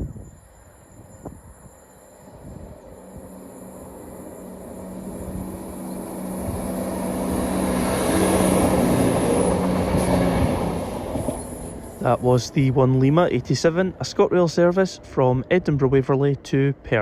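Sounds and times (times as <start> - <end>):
train running past: 0.0 - 17.0.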